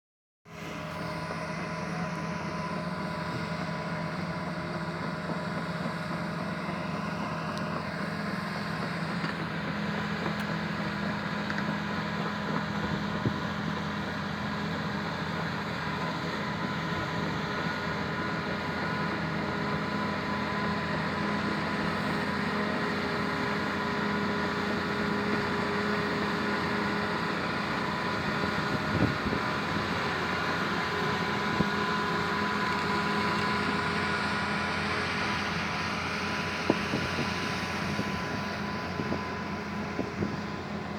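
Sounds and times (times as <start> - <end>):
excavator diesel engines running: 0.5 - 40.9.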